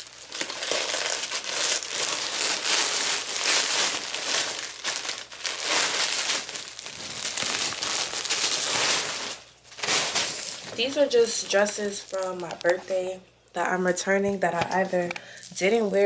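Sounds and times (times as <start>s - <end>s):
packaging crinkling and rustling: 0.0s - 13.2s.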